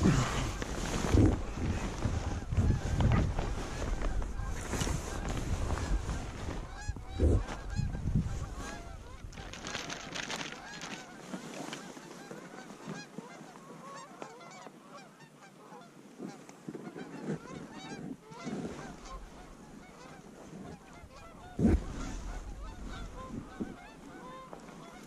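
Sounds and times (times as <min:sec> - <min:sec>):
geese honking and clucking: 0:00.0 - 0:25.0.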